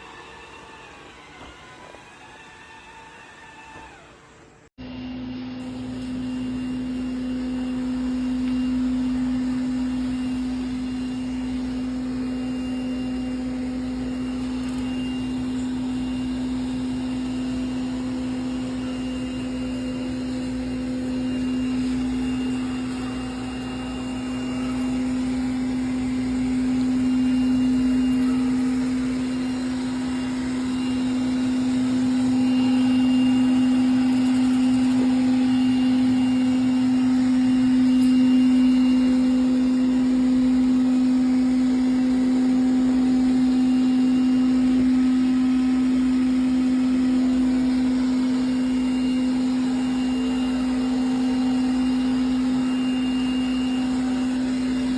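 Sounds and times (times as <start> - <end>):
robot vacuum motor hum: 0.0 - 54.9.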